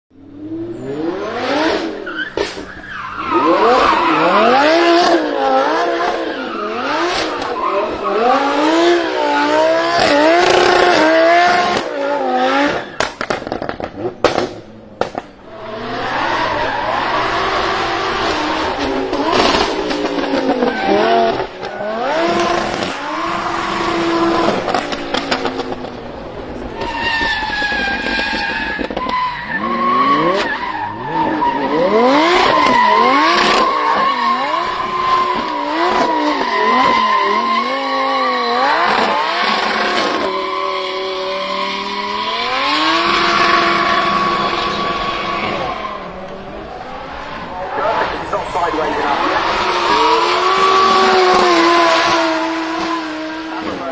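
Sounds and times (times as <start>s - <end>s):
car engine revving hard: 0.2s - 2.6s, 3.2s - 53.9s
tyres squealing: 2.0s - 11.7s, 15.4s - 53.5s.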